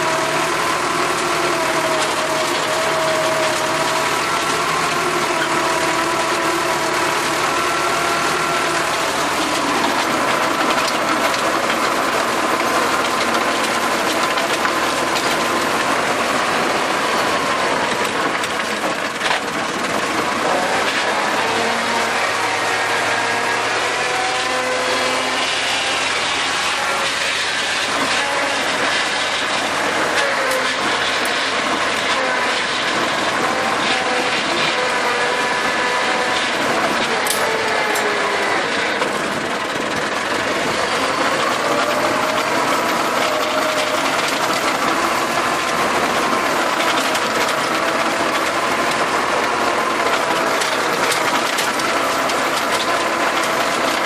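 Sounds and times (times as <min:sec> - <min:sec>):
rotary tiller clattering: 0:00.0 - 0:54.0
tractor engine running: 0:00.0 - 0:54.0.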